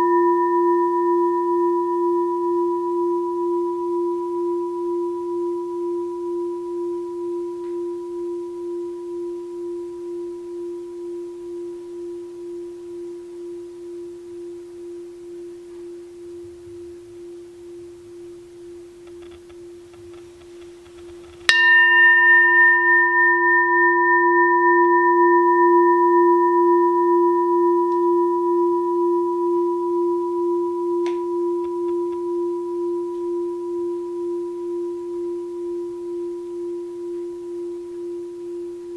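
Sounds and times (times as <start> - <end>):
bowl bell ringing: 0.0 - 38.9.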